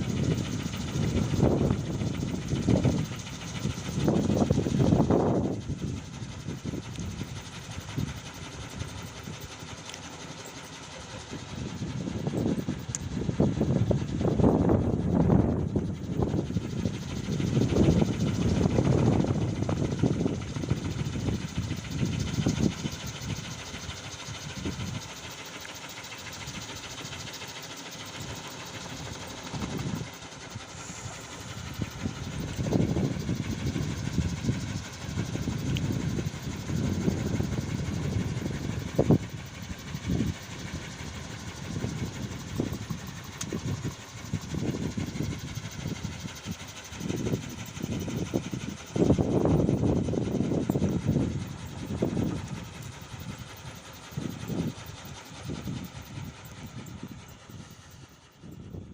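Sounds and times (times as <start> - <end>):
wind propeller droning hum: 0.0 - 58.9.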